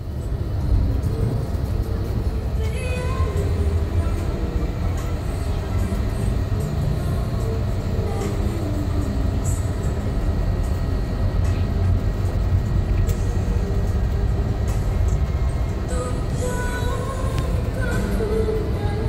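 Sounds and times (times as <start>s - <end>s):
coach engine and road noise: 0.0s - 19.0s.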